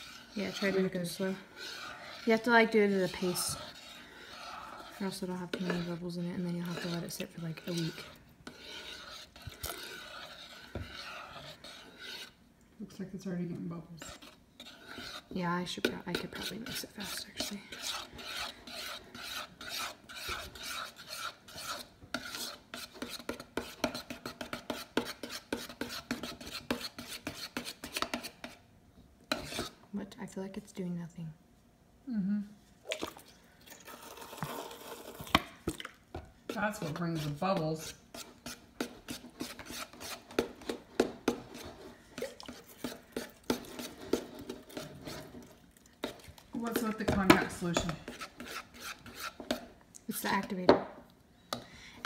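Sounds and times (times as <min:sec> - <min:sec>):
spoon scraping plastic bowl: 0:00.0 - 0:12.4, 0:13.9 - 0:28.6, 0:29.3 - 0:29.8, 0:33.8 - 0:50.8.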